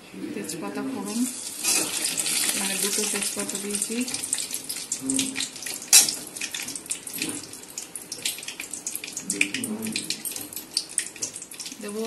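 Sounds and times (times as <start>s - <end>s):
leaves sizzling in hot oil: 1.1s - 12.0s.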